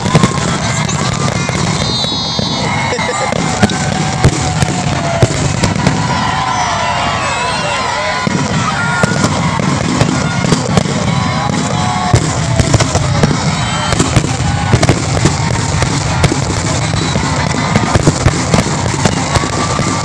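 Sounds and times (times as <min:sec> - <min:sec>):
fireworks crackling and popping: 0:00.0 - 0:20.0.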